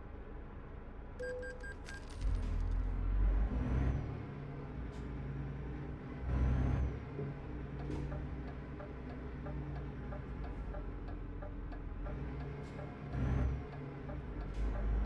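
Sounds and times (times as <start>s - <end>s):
truck engine drone: 0.0s - 15.0s.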